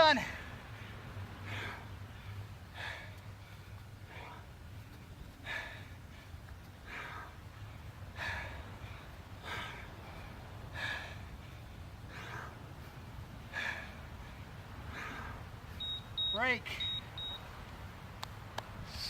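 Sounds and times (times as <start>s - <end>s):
low steady hum: 0.0s - 19.0s
person breathing hard: 0.3s - 15.8s.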